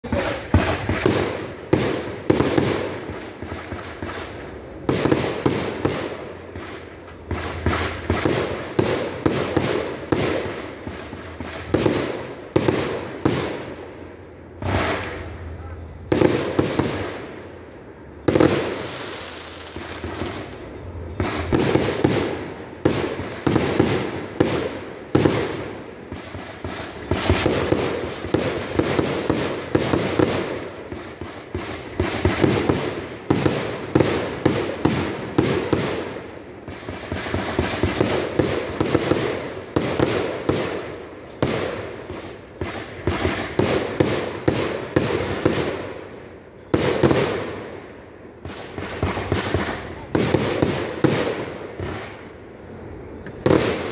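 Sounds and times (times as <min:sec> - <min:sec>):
fireworks launching and bursting: 0:00.0 - 0:53.9.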